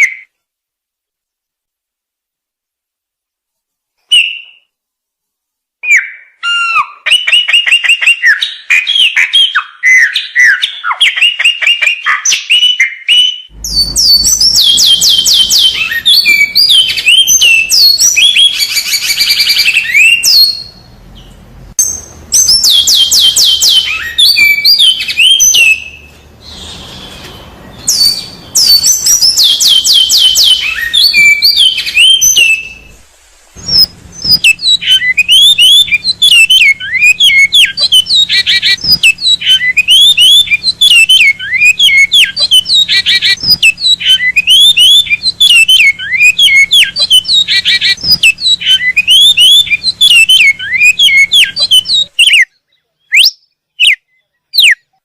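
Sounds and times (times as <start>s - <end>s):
songbird singing: 4.0s - 4.8s, 5.8s - 55.0s.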